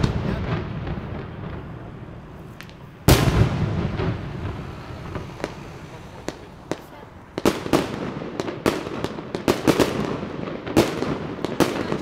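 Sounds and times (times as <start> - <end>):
fireworks booming: 0.0 - 12.0
fireworks crackles and pops: 0.0 - 12.0.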